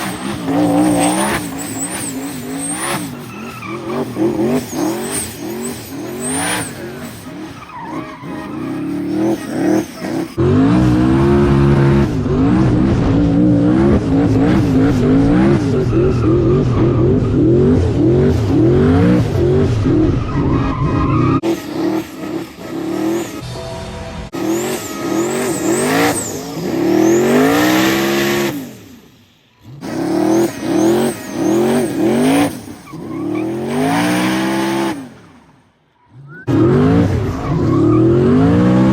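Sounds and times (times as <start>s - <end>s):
tires squealing and skidding: 0.0s - 23.4s, 24.4s - 38.9s
race car engine revving: 0.0s - 35.5s, 36.1s - 38.9s.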